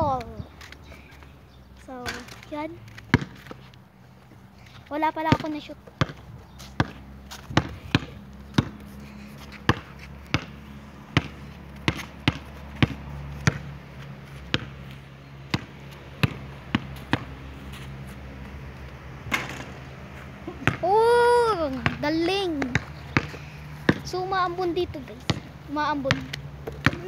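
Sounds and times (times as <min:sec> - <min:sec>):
basketball bouncing on concrete: 0:01.9 - 0:03.7, 0:04.9 - 0:17.8, 0:18.4 - 0:19.9, 0:20.6 - 0:27.0.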